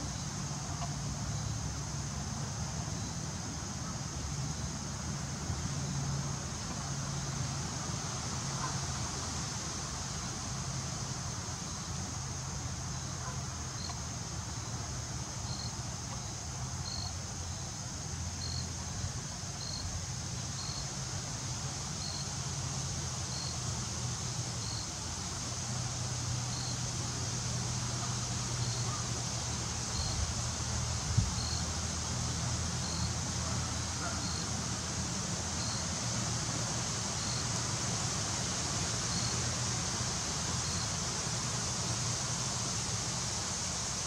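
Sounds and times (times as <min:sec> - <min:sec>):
insects droning: 0:00.0 - 0:44.0
low hum of distant traffic: 0:00.0 - 0:44.0.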